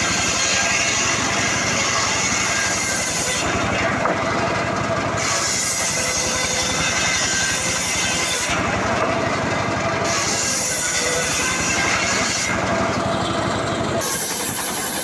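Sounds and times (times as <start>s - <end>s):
engine-powered saw cutting wood: 0.0s - 15.0s.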